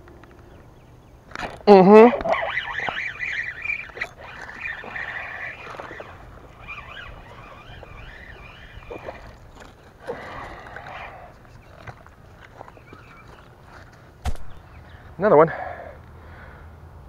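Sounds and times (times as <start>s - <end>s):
birds chirping: 0.0s - 16.5s.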